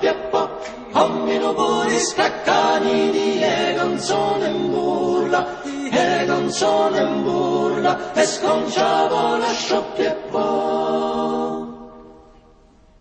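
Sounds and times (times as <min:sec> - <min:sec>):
choir singing held chords: 0:00.0 - 0:12.8.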